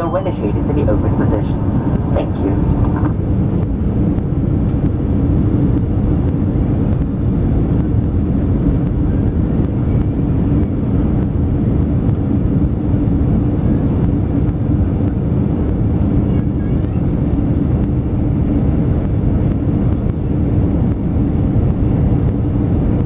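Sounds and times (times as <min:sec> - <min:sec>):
aircraft cabin engine roar: 0:00.0 - 0:23.0.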